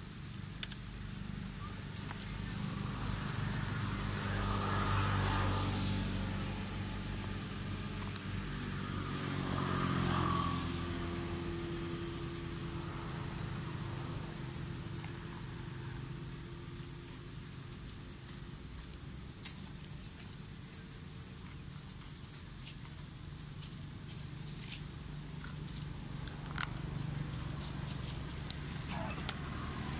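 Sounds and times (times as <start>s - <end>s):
vehicle engines passing by: 0.8s - 29.9s.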